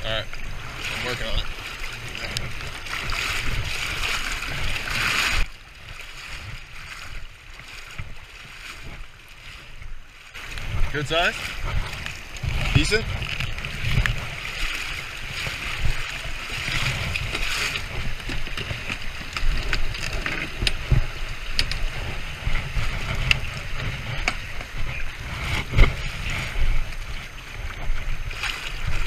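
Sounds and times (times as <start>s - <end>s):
river water rushing and lapping: 0.0s - 29.0s
wind buffeting microphone: 0.0s - 29.0s
knocks and clicks from boat frame: 0.3s - 29.0s.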